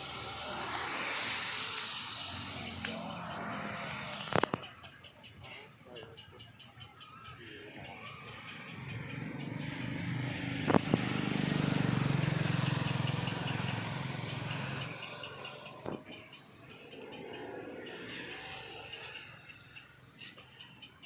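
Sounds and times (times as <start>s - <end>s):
engine passing by: 0.0s - 5.9s, 7.1s - 21.0s.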